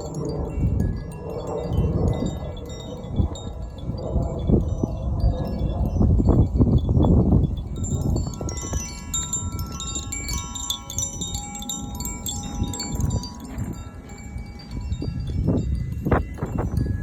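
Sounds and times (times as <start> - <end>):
wind chime ringing: 0.0 - 17.0.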